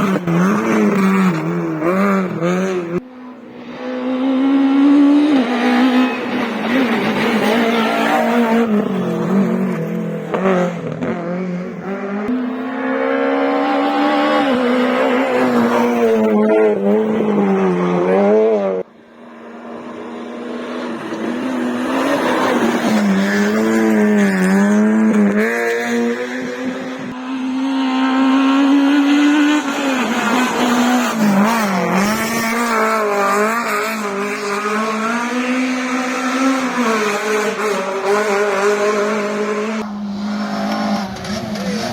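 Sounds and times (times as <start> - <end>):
rally car engines revving hard: 0.0 - 41.9.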